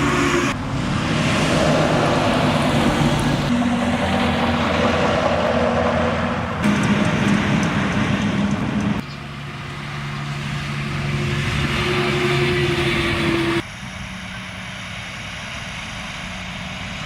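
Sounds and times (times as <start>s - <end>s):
heavy trucks driving past: 0.0s - 17.0s.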